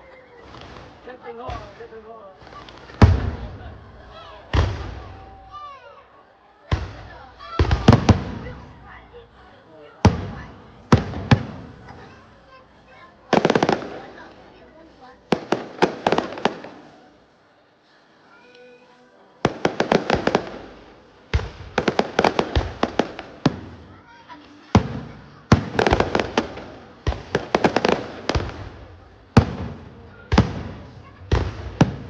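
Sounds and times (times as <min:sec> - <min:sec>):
fireworks bangs and crackles: 0:00.3 - 0:05.6, 0:06.7 - 0:09.0, 0:10.0 - 0:12.3, 0:12.9 - 0:17.0, 0:19.4 - 0:32.0.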